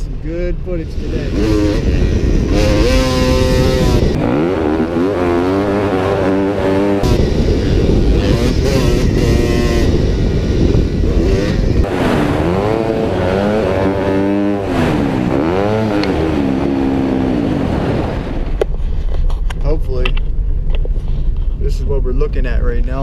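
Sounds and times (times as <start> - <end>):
low rumble: 0.0 - 5.8, 6.4 - 23.0
motor engines revving: 0.0 - 19.0.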